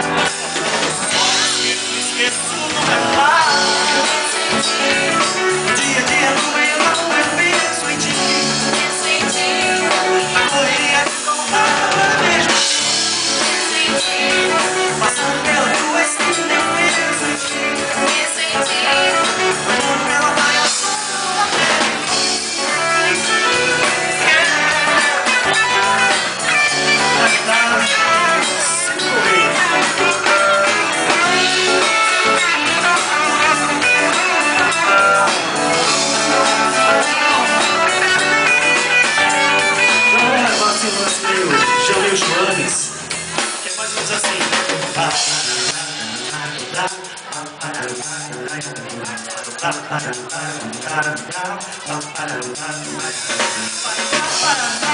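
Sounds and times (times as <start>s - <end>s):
band playing with guitar: 0.0s - 54.9s.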